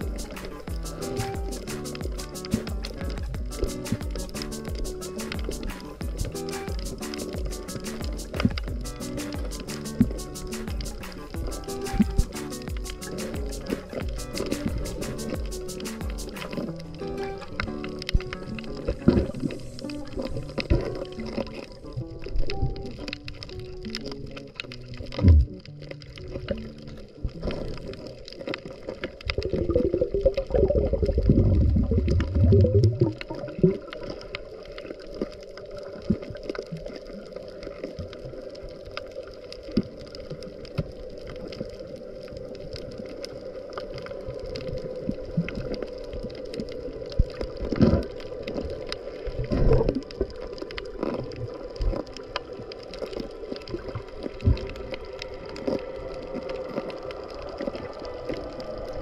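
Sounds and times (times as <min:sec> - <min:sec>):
water gurgling underwater: 0:00.0 - 0:59.0.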